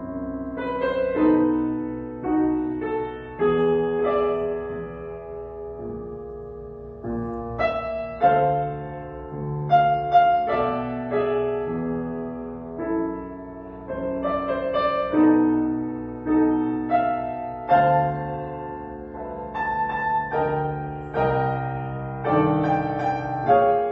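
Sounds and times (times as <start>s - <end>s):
grand piano playing: 0.0s - 23.9s.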